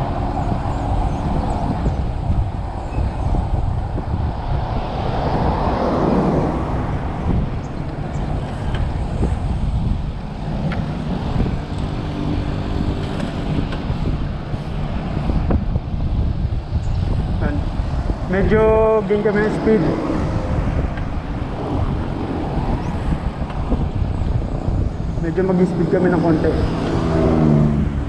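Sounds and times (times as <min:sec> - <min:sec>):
passing vehicle: 0:00.0 - 0:28.0
wind buffeting microphone: 0:00.0 - 0:28.0.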